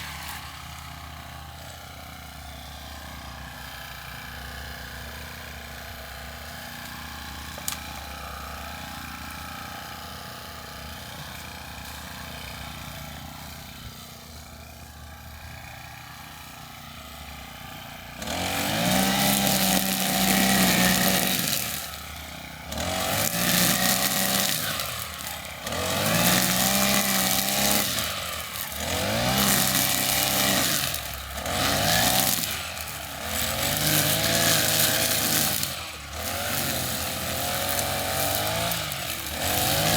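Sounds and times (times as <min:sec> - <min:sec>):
small petrol engine revving: 0:00.0 - 0:39.9.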